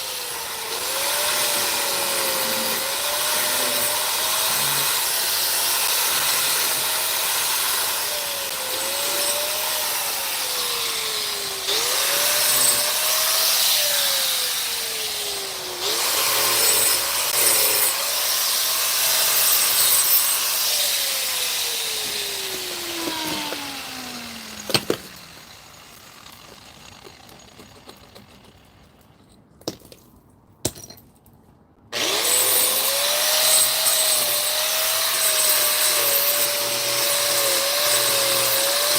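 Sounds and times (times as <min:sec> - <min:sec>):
electric power tool cutting wood: 0:00.0 - 0:27.5, 0:32.0 - 0:38.9.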